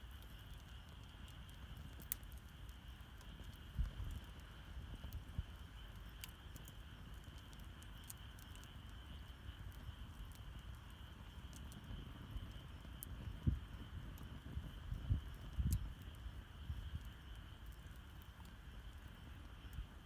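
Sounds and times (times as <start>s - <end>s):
campfire crackling and popping: 0.0s - 20.0s
campfire low rumble: 0.0s - 20.0s
insect trill: 0.0s - 20.0s.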